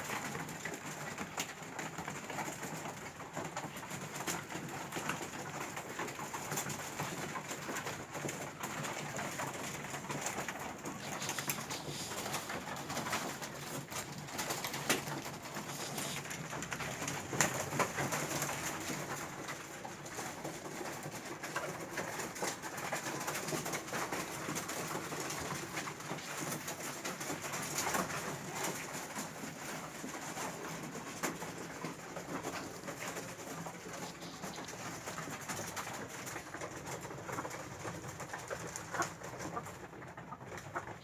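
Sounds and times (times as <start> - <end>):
pigeons cooing: 6.4 - 41.0.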